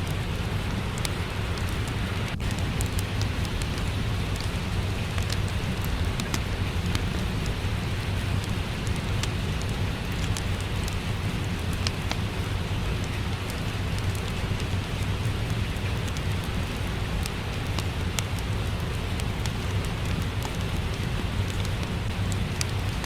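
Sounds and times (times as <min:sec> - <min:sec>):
rain falling: 0:00.0 - 0:23.0
wood fire crackling: 0:00.0 - 0:23.0.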